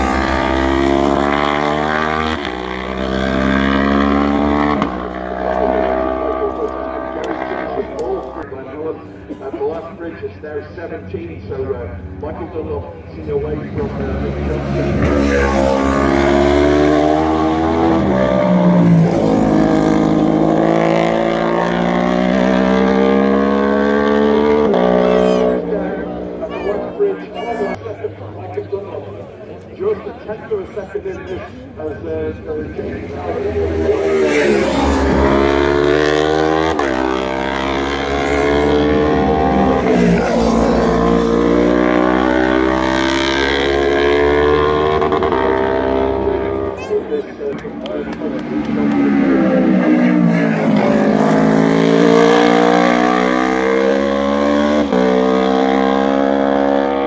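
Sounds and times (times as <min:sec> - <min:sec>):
motorcycle engine revving high: 0:00.0 - 0:08.7, 0:12.0 - 0:27.9, 0:31.8 - 0:57.0.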